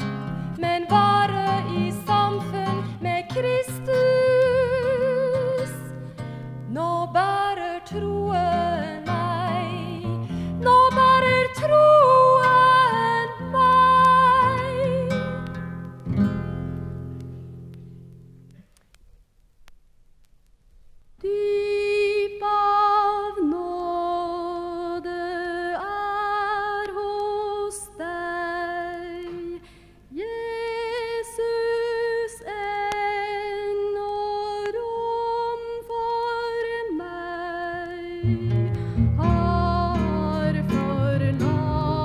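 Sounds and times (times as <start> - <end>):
woman singing with vibrato: 0.6 - 6.0, 6.7 - 15.5, 21.2 - 42.0.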